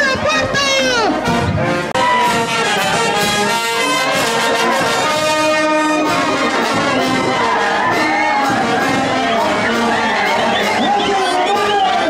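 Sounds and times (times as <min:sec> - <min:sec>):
brass band long held notes: 0:00.1 - 0:12.0.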